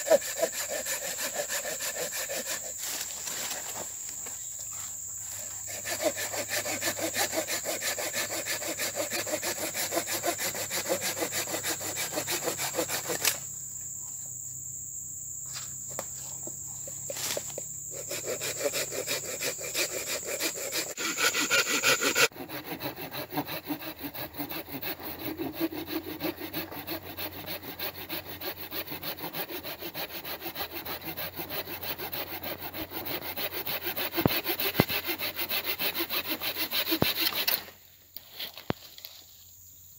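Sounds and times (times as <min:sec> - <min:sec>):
hand saw cutting branch: 0:00.0 - 0:04.1, 0:05.4 - 0:13.4, 0:17.1 - 0:39.2.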